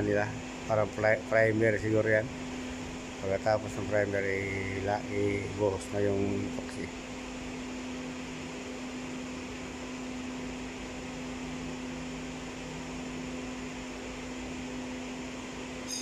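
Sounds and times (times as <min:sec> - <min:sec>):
mechanical hum with hiss: 0:00.0 - 0:16.0.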